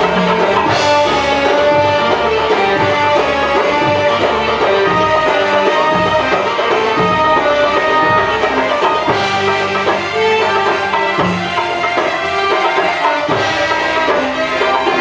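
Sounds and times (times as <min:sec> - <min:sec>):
steady drum rhythm: 0:00.0 - 0:15.0.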